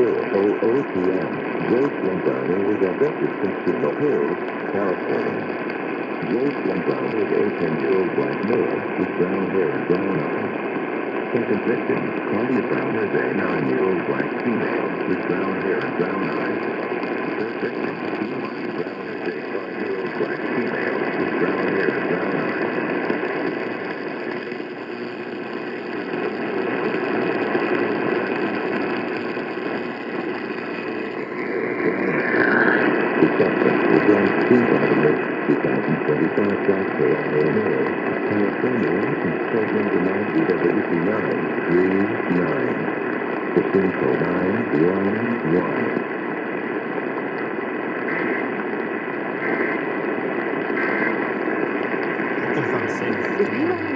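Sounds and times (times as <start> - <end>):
radio static and hiss: 0.0 - 53.9.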